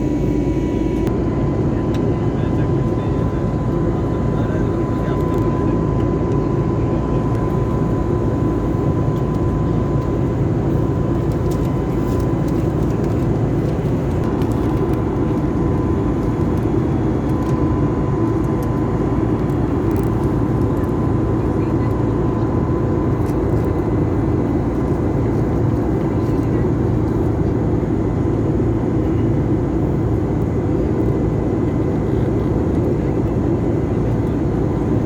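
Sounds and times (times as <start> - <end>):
airliner engine roar in cabin: 0.0 - 35.0
thin steady whine: 0.0 - 35.0.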